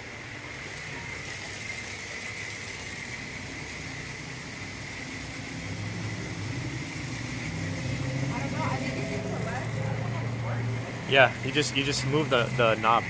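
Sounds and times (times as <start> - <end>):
high-pressure spray hissing: 0.0 - 13.0
low machine hum: 0.0 - 13.0.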